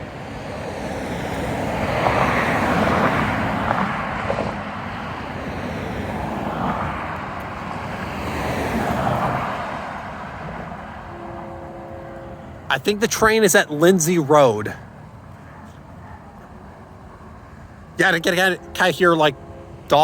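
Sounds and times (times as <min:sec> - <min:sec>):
cars passing by: 0:00.0 - 0:20.0.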